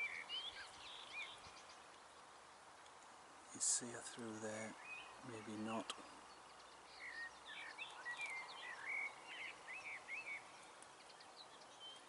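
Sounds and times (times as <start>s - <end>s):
faint outdoor hiss: 0.0s - 12.0s
songbird chirping and warbling: 0.0s - 12.0s.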